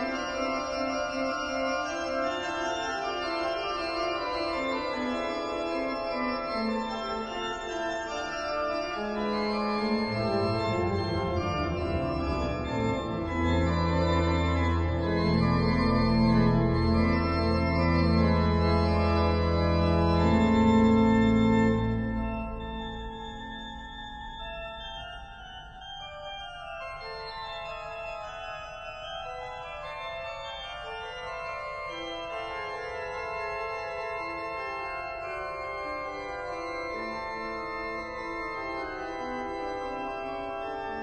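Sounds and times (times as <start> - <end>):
organ playing held chords: 0.0 - 41.0.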